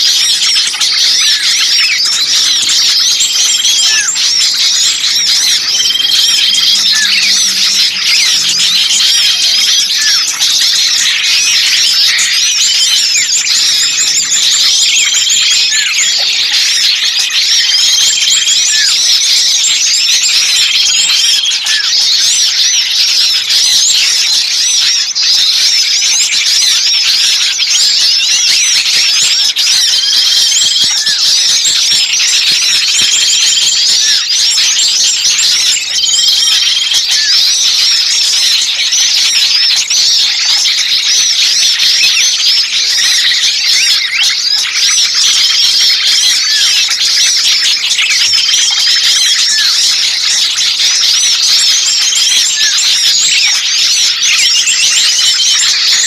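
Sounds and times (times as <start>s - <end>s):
songbirds chattering: 0.0s - 56.0s.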